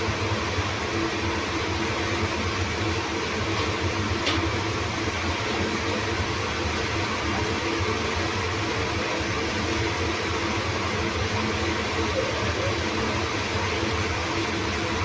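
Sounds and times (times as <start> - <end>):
fridge fan whirring hum: 0.0 - 15.0.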